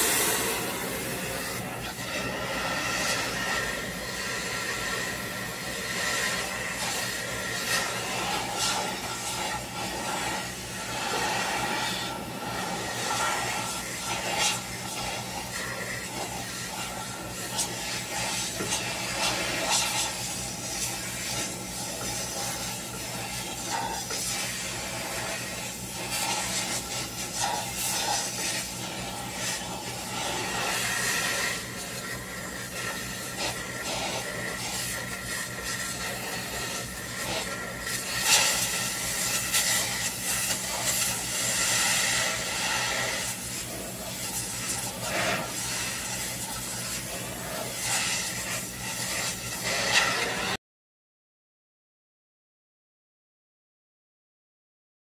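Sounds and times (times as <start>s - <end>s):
gas torch hissing: 0.0s - 50.6s.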